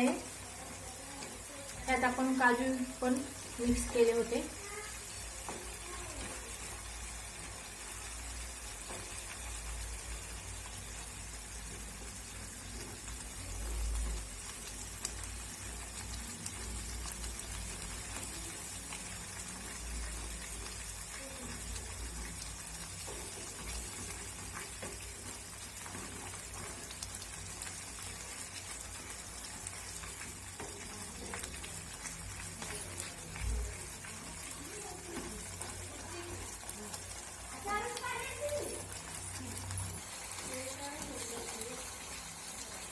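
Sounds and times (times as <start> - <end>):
curry sizzling in oil: 0.0 - 42.9.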